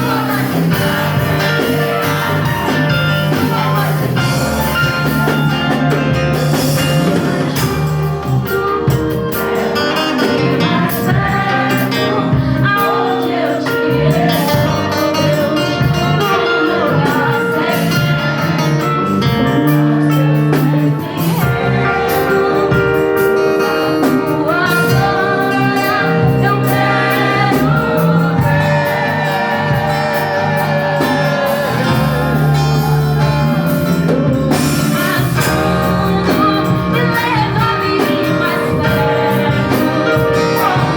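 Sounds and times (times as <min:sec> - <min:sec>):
song with guitar and drums: 0:00.0 - 0:40.9.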